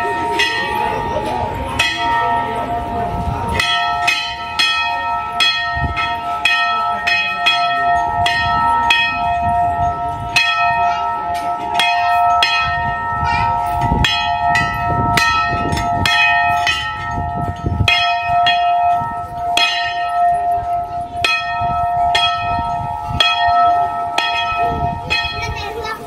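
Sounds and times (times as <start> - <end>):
temple bell ringing: 0.0 - 26.0.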